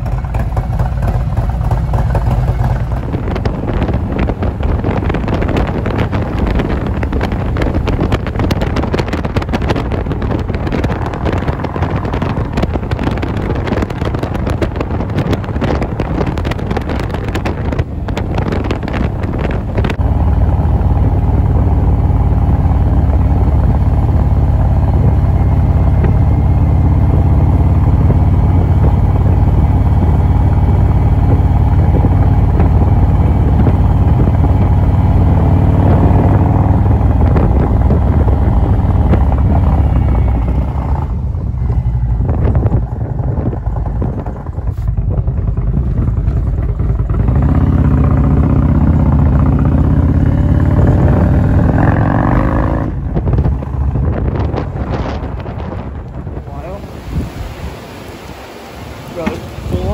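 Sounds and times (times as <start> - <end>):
motorcycle engine rumble: 0.0 - 59.9
wind buffeting the microphone: 0.0 - 59.9.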